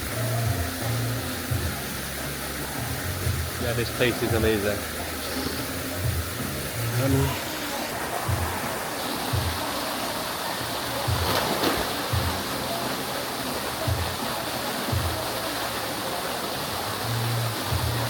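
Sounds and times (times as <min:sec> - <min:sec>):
background music bass notes: 0:00.0 - 0:07.4, 0:10.7 - 0:18.0
waterfall rushing: 0:00.0 - 0:18.0.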